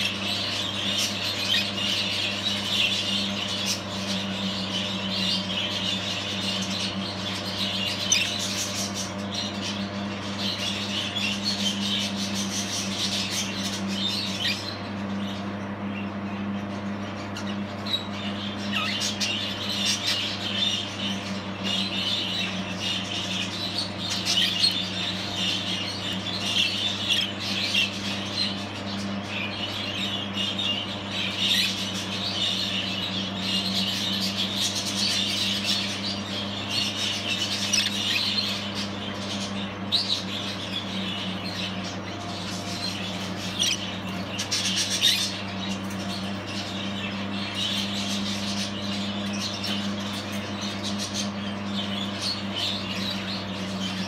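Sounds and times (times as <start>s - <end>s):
budgerigars chattering and warbling: 0.0s - 54.0s
sharp bird calls: 0.0s - 54.0s.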